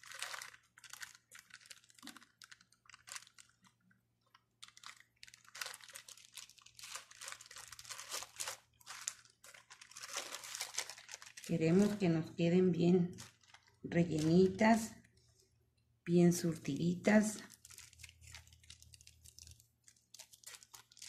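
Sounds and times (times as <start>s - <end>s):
plastic bag crinkling: 0.0s - 15.4s, 16.6s - 21.0s.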